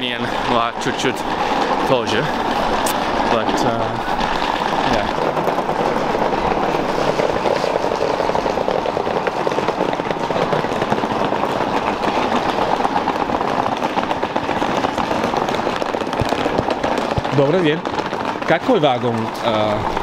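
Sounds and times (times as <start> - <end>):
suitcase wheels rattling on bricks: 0.0 - 20.0.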